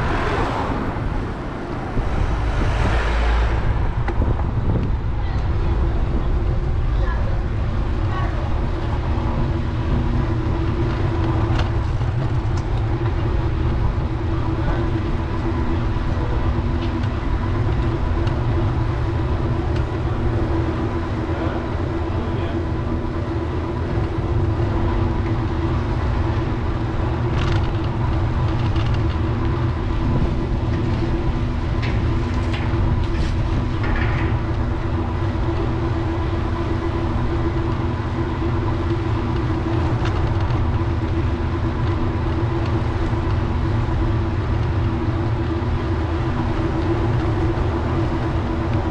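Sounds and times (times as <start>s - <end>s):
constant hum: 0.0s - 48.9s
wind and road noise: 0.0s - 48.9s.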